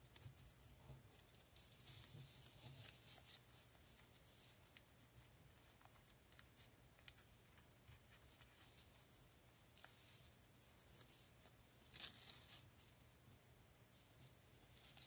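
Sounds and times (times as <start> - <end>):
banknote rustling and crinkling: 0.0 - 13.0.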